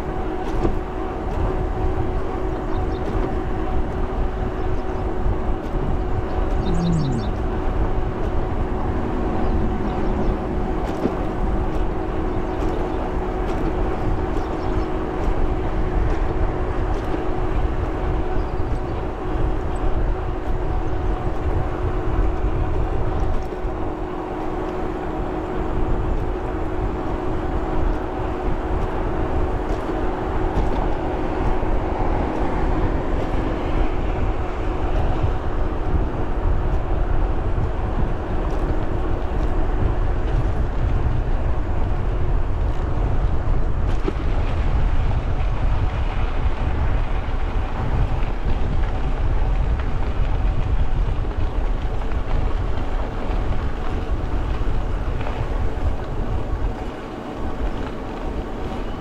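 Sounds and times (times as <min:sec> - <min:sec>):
bike tires rolling on trail: 0:00.0 - 0:59.0
steady hum: 0:00.0 - 0:59.0
wind buffeting microphone: 0:00.0 - 0:59.0.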